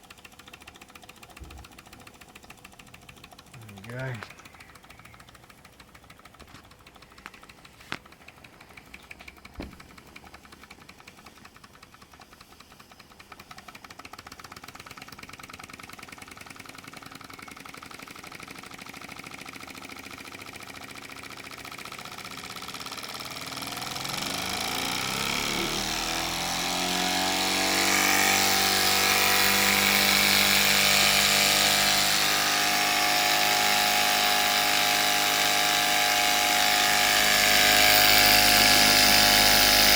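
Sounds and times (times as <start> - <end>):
miniature steam engine running: 0.0 - 39.9.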